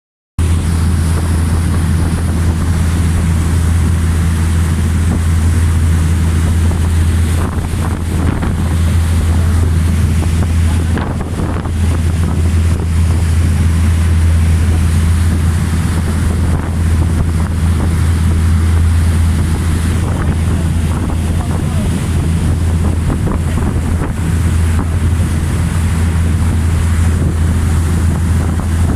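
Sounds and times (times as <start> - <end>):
boat engine droning: 0.4 - 28.9
rushing water: 0.4 - 28.9
wind buffeting microphone: 0.4 - 28.9.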